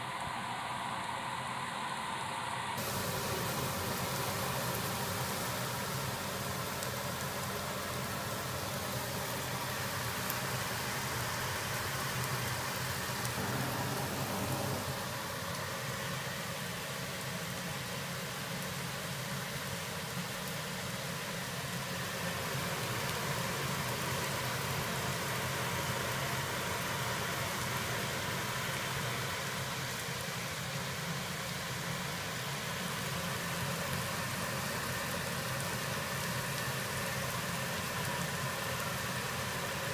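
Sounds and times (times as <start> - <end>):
range hood blower running: 0.0 - 19.0, 19.6 - 39.9.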